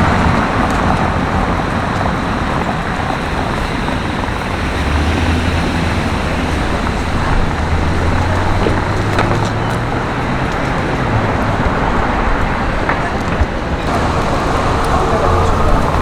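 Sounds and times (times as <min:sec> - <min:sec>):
road noise: 0:00.0 - 0:16.0
vehicle engine humming: 0:00.0 - 0:16.0.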